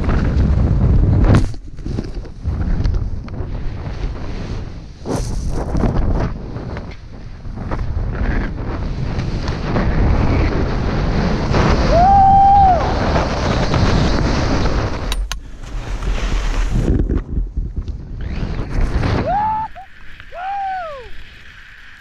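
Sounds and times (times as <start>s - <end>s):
wind on camera microphone: 0.0s - 21.6s
skis running through snow: 0.0s - 22.0s.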